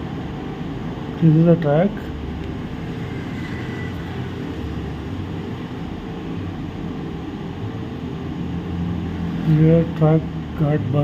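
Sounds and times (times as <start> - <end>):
steady hum and hiss: 0.0 - 11.0.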